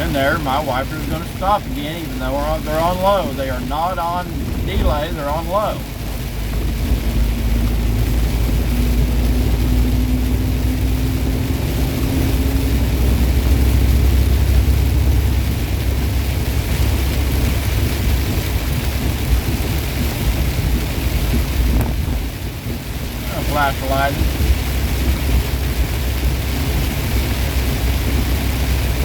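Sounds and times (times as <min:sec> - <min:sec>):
road noise in rain: 0:00.0 - 0:29.0
truck engine rumble: 0:00.0 - 0:29.0.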